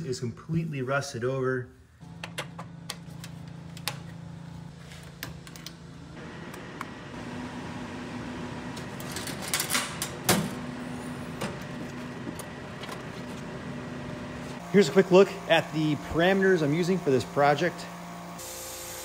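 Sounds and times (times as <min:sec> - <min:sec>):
machine humming: 0:02.0 - 0:19.0.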